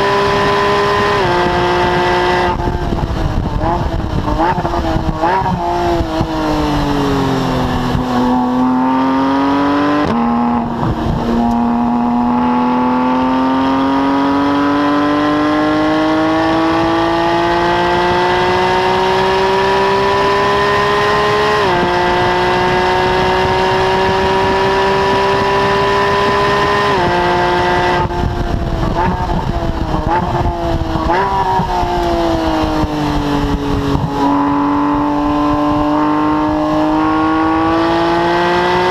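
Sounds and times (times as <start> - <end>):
blipped downshifts: 0.0 - 38.9
car exhaust under hard acceleration: 0.0 - 38.9.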